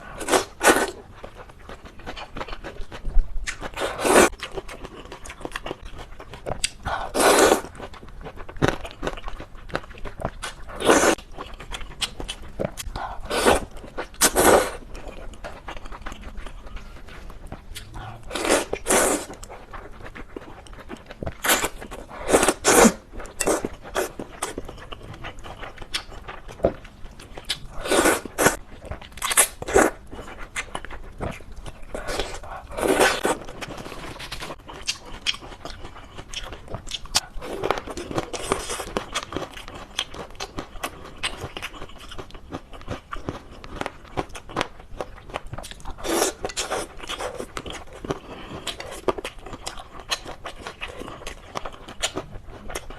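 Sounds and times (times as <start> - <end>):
chewing and biting noodles: 0.0 - 52.9.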